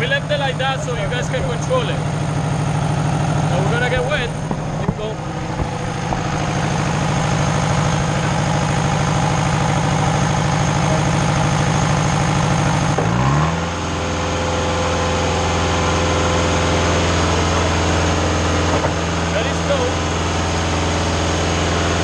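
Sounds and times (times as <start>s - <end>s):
concrete pump engine running: 0.0s - 22.0s.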